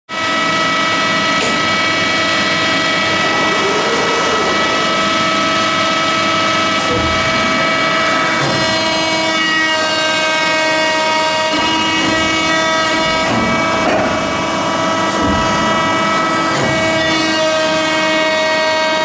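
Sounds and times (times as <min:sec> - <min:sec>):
hydraulic machine whine: 0:00.1 - 0:19.0.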